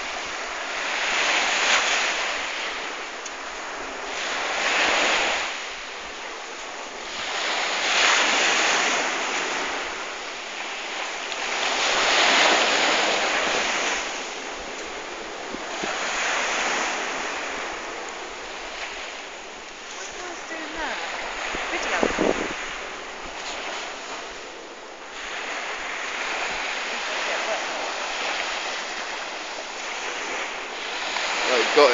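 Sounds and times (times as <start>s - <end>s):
waves breaking on a shore: 0.0s - 31.9s.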